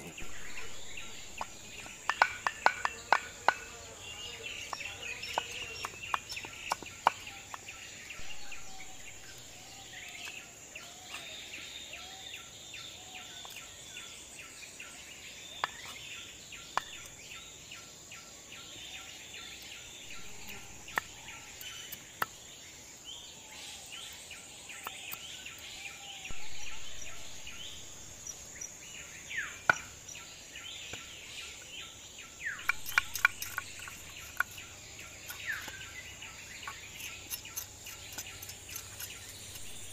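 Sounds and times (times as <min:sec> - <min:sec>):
birds chirping: 0:00.0 - 0:39.9
high insect drone: 0:00.0 - 0:39.9.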